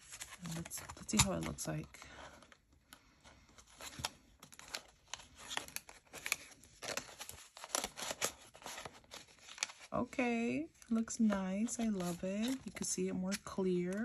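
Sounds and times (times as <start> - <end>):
banknotes and plastic envelope crinkling: 0.0 - 14.0.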